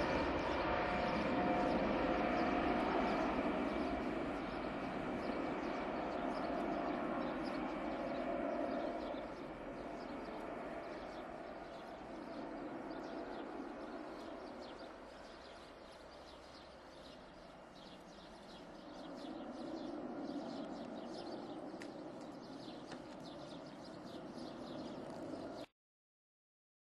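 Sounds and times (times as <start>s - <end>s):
birds chirping: 0.0s - 25.7s
distant jet airliner roar: 0.0s - 25.7s.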